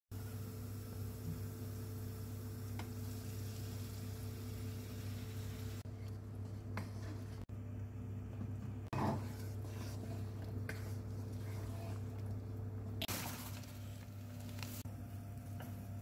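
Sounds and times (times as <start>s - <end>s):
low electrical hum: 0.2s - 16.0s.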